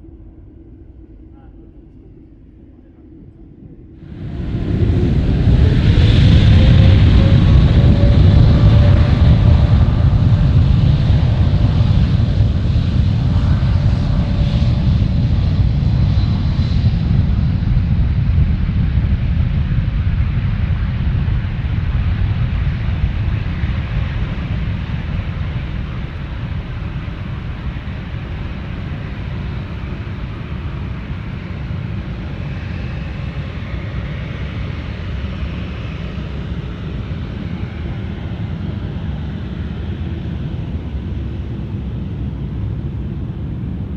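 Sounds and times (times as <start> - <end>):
jet engines low rumble: 0.0 - 43.9.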